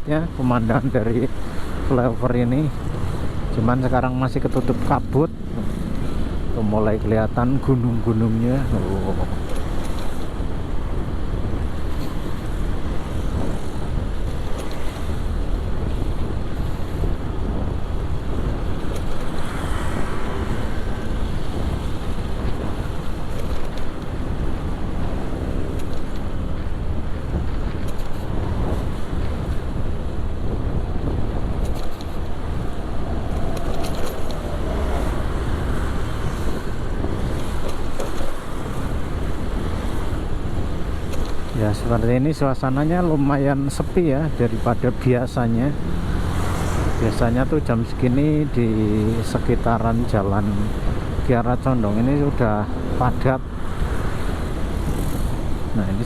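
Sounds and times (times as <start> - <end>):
motorcycle road and engine noise: 0.0 - 56.0
surrounding traffic: 0.0 - 56.0
wind buffeting microphone: 0.0 - 56.0.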